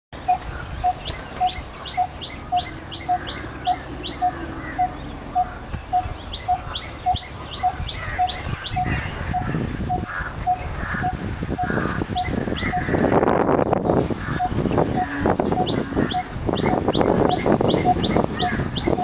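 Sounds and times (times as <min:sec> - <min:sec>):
barbet calling hollow tuk notes: 0:00.2 - 0:13.2, 0:14.0 - 0:19.0.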